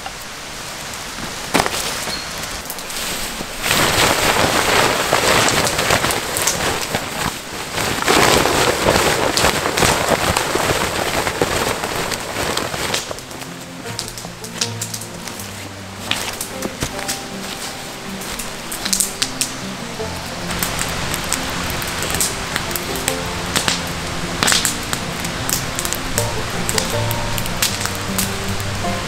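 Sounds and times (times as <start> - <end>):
tarp rustling and flapping: 0.0 - 29.0
water spattering: 0.7 - 29.0.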